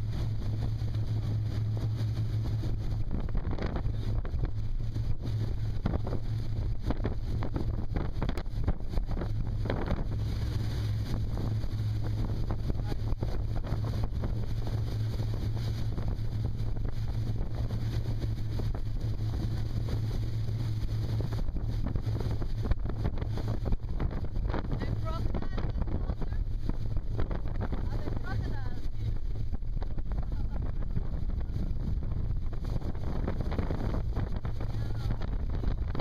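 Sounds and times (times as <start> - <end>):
boat engine drone: 0.0 - 36.0
water rushing past hull: 0.0 - 36.0
wind buffeting microphone: 0.0 - 36.0.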